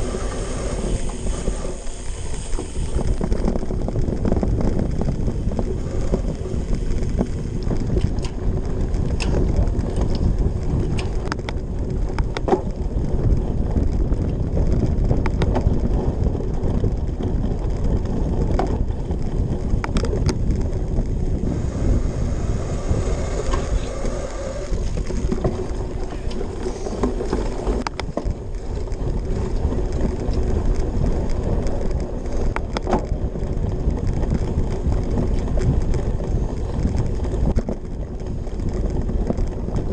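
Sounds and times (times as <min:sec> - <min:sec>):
bike rattling and knocking: 0:00.0 - 0:39.9
knobby tyres rumbling on grass: 0:00.0 - 0:39.9
wind rushing over microphone: 0:00.0 - 0:39.9.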